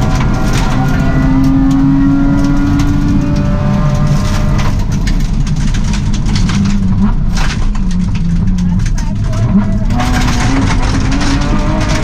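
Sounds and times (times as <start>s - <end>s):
gravel road noise: 0.0s - 12.0s
rally car engine: 0.0s - 12.0s.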